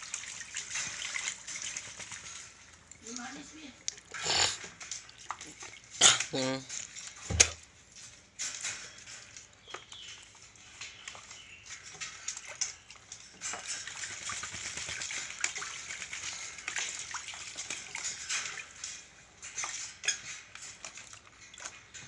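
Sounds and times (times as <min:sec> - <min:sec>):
bird splashing in water: 0:00.0 - 0:22.0.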